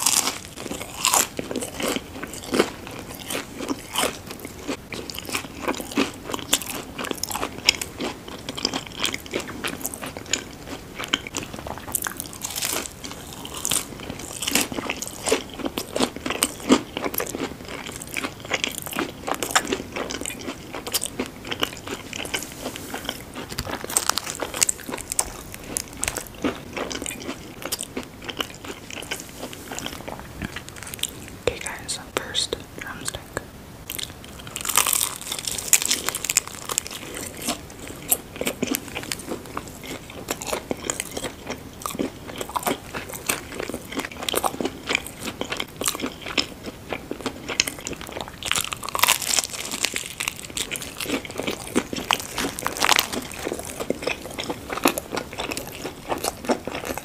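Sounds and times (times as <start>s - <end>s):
crunching crispy food: 0.0s - 31.9s, 33.9s - 57.0s.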